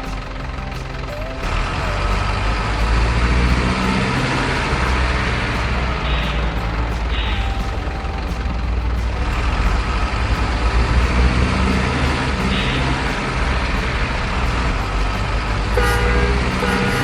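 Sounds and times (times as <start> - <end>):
model truck engine running: 0.0 - 17.0.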